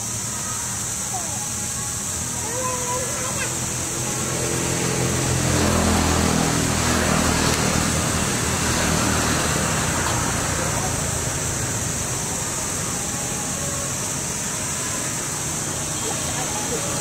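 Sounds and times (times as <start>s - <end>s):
high outdoor hiss: 0.0s - 17.0s
vehicle engine hum: 0.0s - 17.0s.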